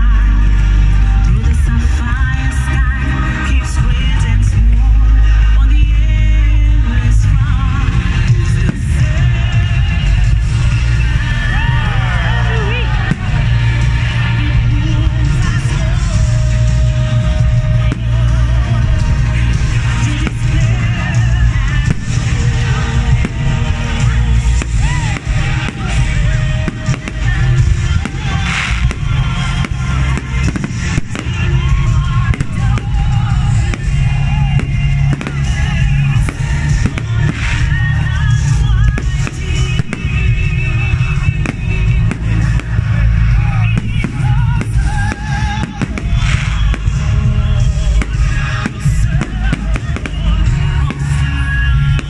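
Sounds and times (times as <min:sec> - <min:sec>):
fireworks bangs and crackles: 0:00.0 - 0:52.0
loud music: 0:00.0 - 0:52.0.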